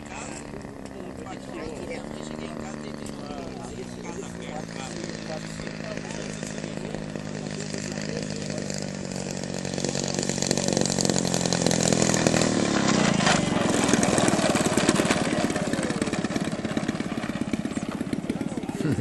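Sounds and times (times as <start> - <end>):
model airplane engine running: 0.0 - 19.0.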